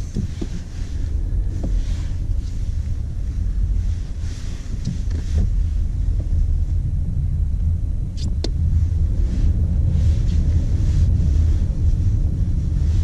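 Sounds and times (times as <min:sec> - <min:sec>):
car interior engine rumble: 0:00.0 - 0:13.0.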